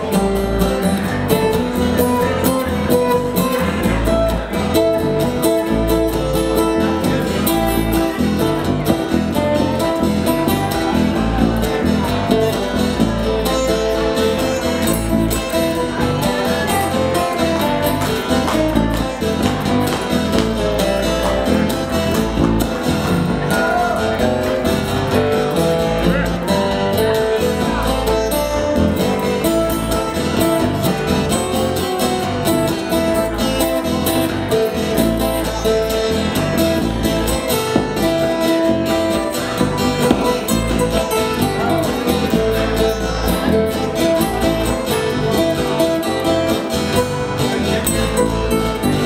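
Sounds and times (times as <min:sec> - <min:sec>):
acoustic guitar band playing: 0:00.0 - 0:49.0.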